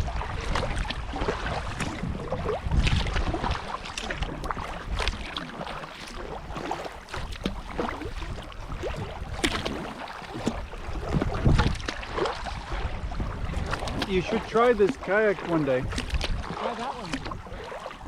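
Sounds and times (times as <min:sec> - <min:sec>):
water splashing from paddle: 0:00.0 - 0:18.0
wind rumbling on microphone: 0:00.0 - 0:18.0.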